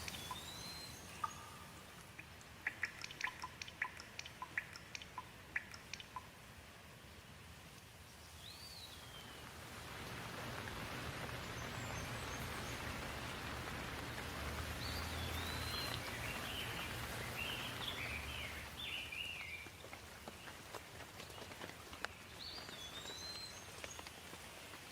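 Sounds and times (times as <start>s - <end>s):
songbird chirping: 0.0s - 6.4s, 7.7s - 24.7s
steady rain falling: 0.0s - 24.9s.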